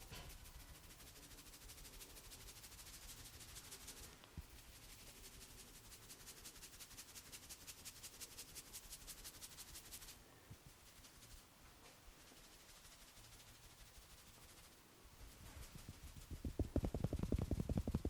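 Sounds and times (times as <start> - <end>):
hands stroking hair: 0.0 - 18.0.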